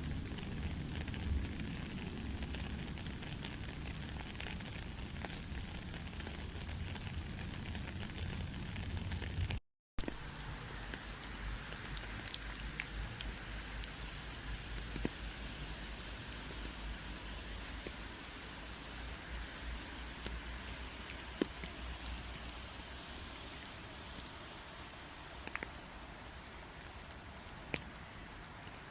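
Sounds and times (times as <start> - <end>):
sharp water drips: 0.0 - 28.9
steady rainfall: 0.0 - 28.9.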